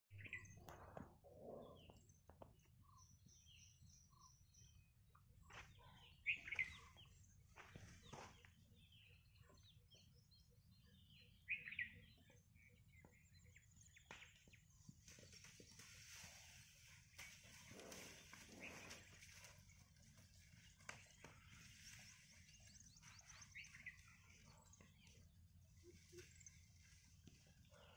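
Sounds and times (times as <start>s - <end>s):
birds chirping and calling: 5.4s - 27.9s.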